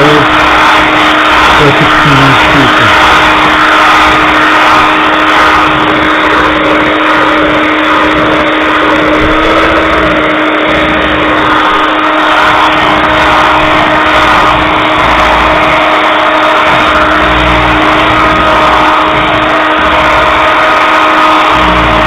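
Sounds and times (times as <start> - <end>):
electric hand mixer whirring: 0.0 - 22.0.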